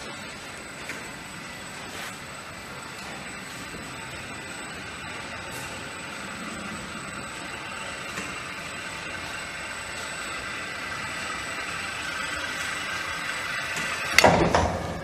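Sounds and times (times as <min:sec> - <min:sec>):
robot motors humming: 0:00.0 - 0:15.0.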